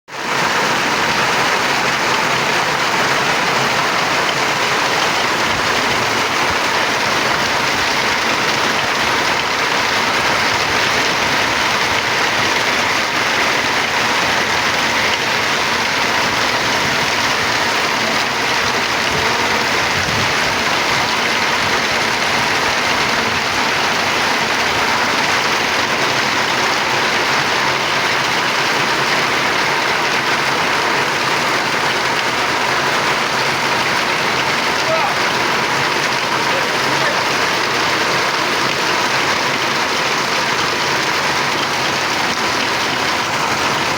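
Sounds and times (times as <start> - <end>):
loud steady rushing noise: 0.1 - 43.9.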